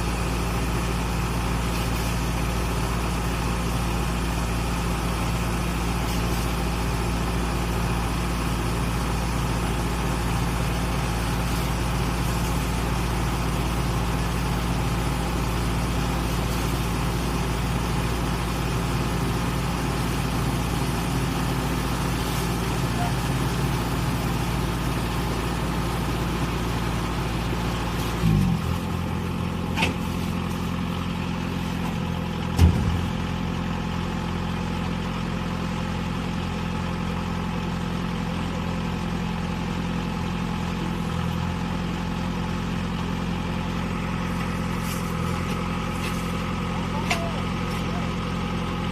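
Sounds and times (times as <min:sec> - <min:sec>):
combine harvester engine hum: 0:00.0 - 0:48.9.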